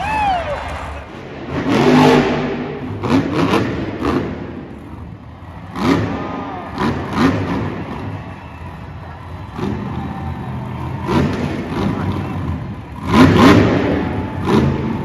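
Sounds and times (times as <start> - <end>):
truck engine revving: 0.6 - 15.0.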